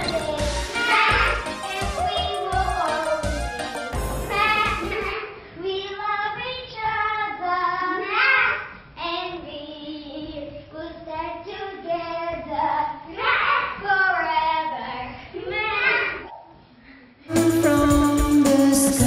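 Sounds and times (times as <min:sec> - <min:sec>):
child singing: 0:00.0 - 0:03.3, 0:04.3 - 0:16.2.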